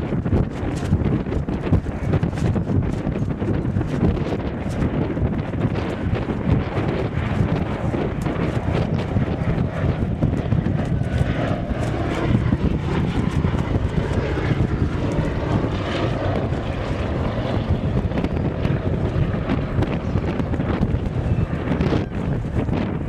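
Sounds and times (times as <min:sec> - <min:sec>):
propeller aircraft engine droning: 0:00.0 - 0:23.0
wind buffeting microphone: 0:00.0 - 0:23.0.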